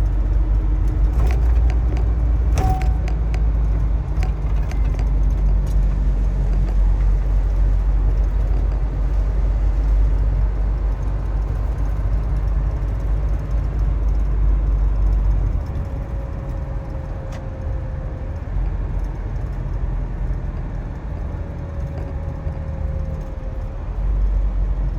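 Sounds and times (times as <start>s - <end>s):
vehicle engine and road rumble: 0.0s - 24.9s.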